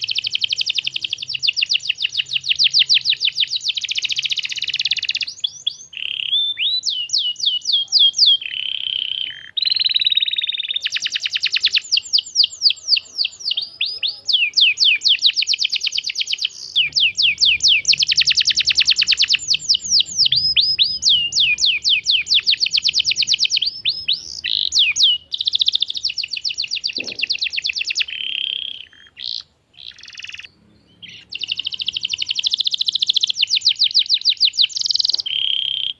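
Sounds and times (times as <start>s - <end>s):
canary singing rapid trills: 0.0s - 35.9s.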